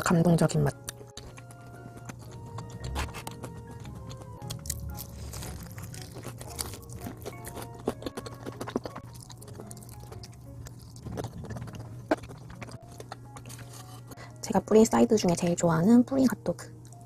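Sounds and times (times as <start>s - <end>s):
crunching and chewing fried chicken: 0.0s - 14.5s
light background music: 0.0s - 17.0s.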